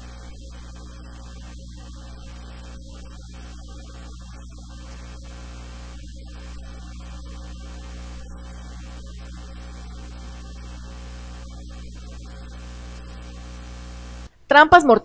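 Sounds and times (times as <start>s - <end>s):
constant hiss: 0.0s - 14.9s
electrical mains hum: 0.0s - 15.0s.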